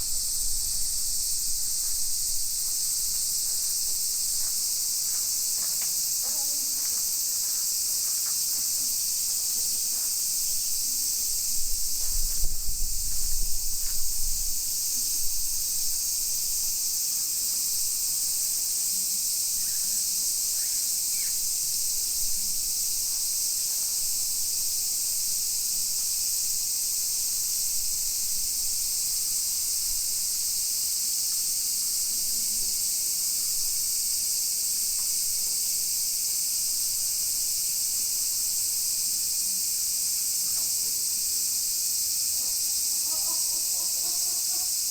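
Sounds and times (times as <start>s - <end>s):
insects chorus: 0.0s - 44.9s.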